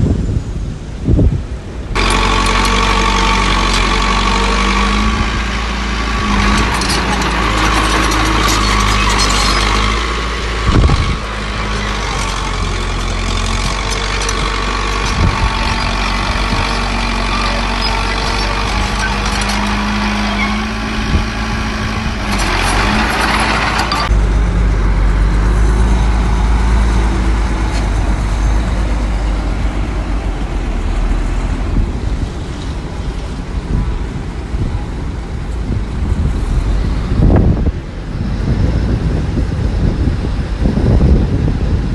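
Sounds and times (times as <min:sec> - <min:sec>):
diesel engines of heavy machinery: 0:00.0 - 0:41.9.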